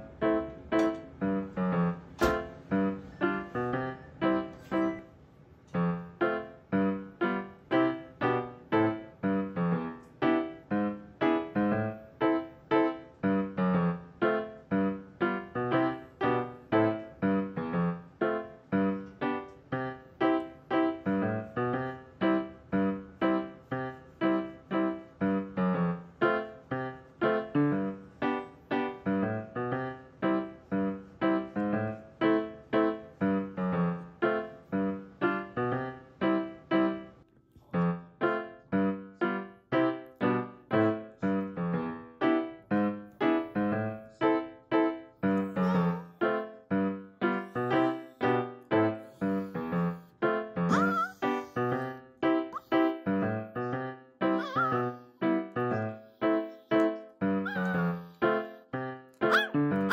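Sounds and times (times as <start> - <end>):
light keyboard tune: 0.0 - 37.2, 38.2 - 59.9.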